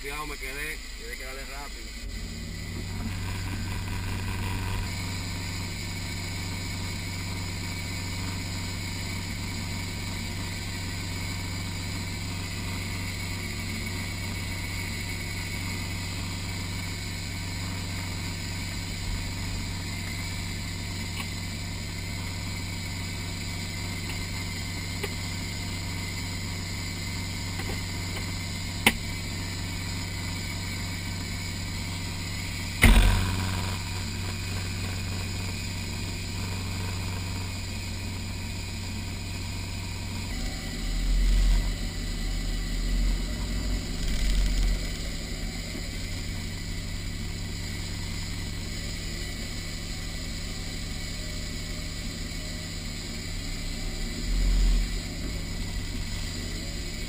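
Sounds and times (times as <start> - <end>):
engine idling heard from cab: 0.0 - 57.0.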